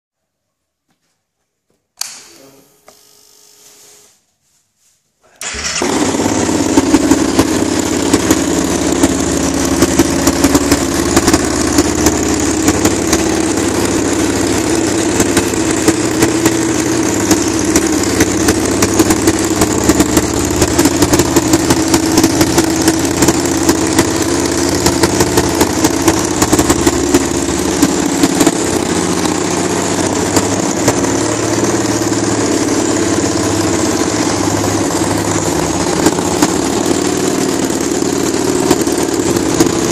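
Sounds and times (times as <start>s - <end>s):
motorcycle engine idling loudly: 5.4s - 39.9s.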